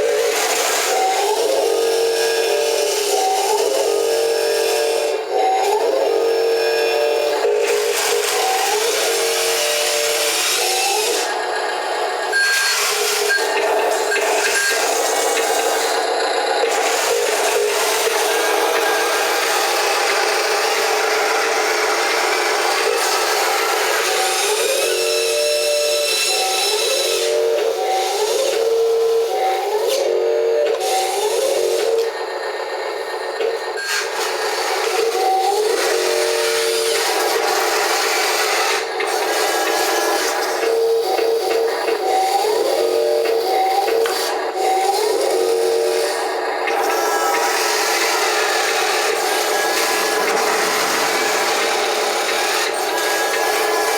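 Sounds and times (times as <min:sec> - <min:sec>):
wheel loader engine: 0:00.0 - 0:53.9.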